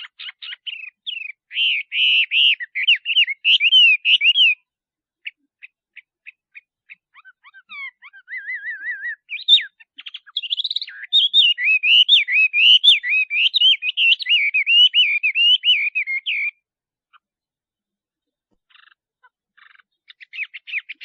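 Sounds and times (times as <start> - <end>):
bird singing whistled song: 0.0 - 17.2, 19.6 - 21.0.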